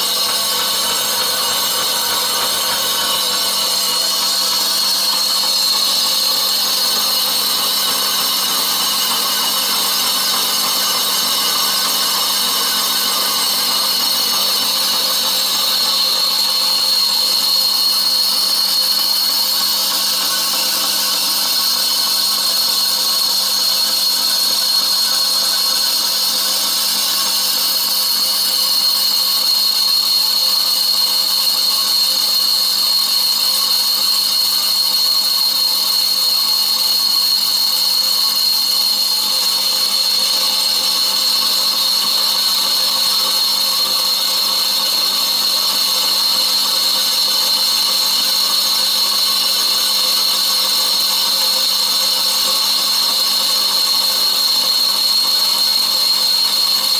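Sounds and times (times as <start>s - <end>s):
lathe tool cutting metal: 0.0s - 56.9s
metal lathe whining: 0.0s - 56.9s.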